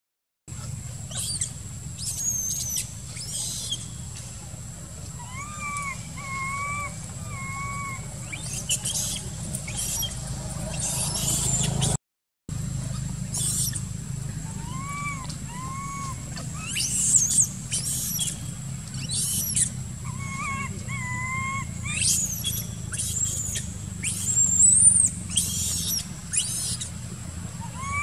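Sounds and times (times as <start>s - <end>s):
young monkeys screaming: 0.6s - 4.0s, 5.0s - 12.0s, 12.8s - 28.0s
lower arched monkey calls: 0.6s - 4.4s, 5.0s - 12.0s, 12.6s - 28.0s.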